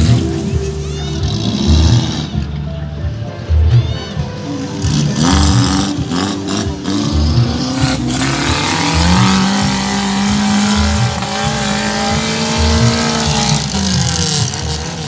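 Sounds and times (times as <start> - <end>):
engine revving hard: 0.0 - 2.8, 4.4 - 15.0.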